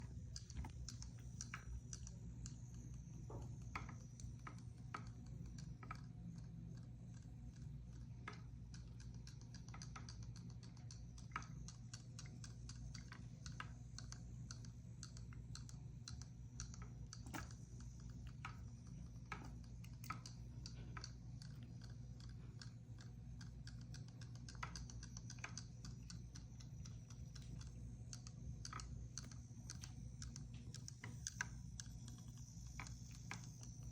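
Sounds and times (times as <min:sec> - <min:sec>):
steady low hum: 0:00.0 - 0:33.9
kittens playing with toy clicks: 0:00.2 - 0:33.9.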